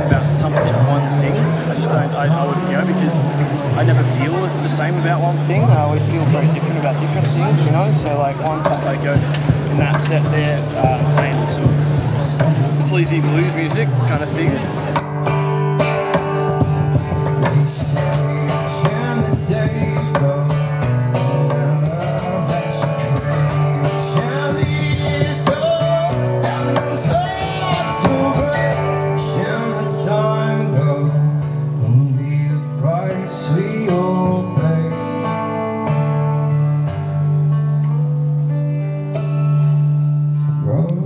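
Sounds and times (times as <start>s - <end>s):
bluesy guitar playing: 0.0s - 41.0s.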